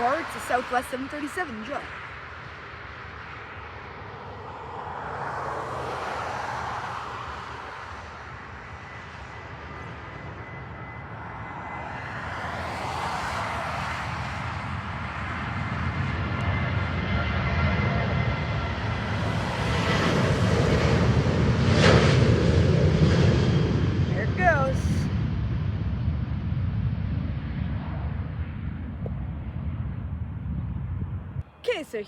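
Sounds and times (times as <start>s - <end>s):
jet engines rushing with whine: 0.0s - 32.0s.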